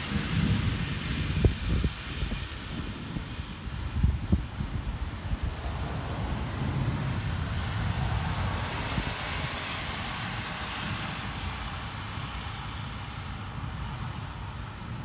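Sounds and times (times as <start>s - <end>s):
rain hiss: 0.0s - 15.0s
wind rumble on microphone: 0.0s - 15.0s.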